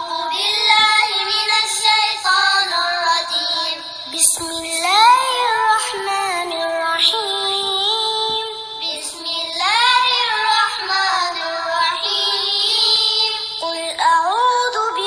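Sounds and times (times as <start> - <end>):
child chanting melodic recitation: 0.0 - 15.0.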